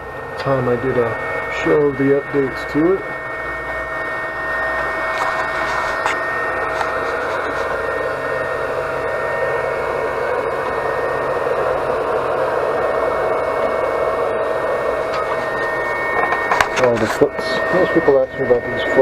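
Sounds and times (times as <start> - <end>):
printer fan hissing and whining: 0.0 - 19.0.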